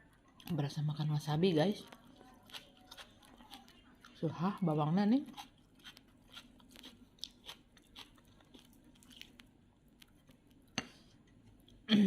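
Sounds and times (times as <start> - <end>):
person chewing: 1.8 - 11.9.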